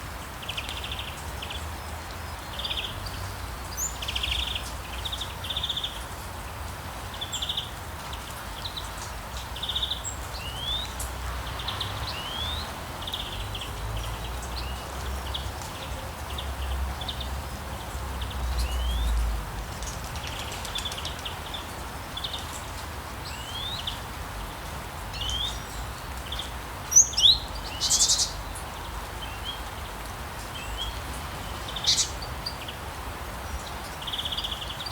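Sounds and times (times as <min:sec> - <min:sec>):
songbirds chirping: 0:00.0 - 0:34.9
steady rain falling: 0:00.0 - 0:34.9.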